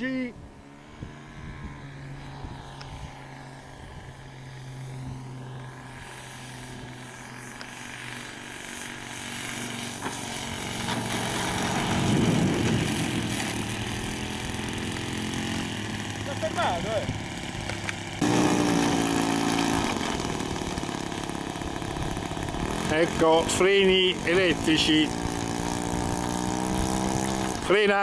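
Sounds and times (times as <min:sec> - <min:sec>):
model plane engine and propeller: 0:00.0 - 0:28.0.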